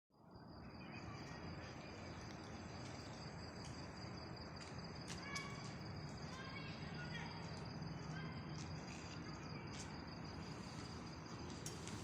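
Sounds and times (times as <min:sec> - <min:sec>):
high-pitched insect trill: 0:00.2 - 0:12.0.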